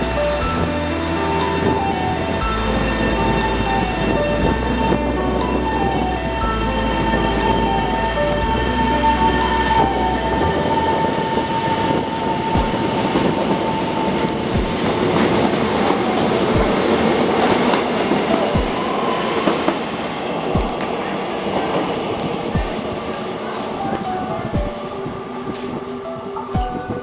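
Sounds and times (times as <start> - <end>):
train wheels rolling on rails: 0.0 - 27.0.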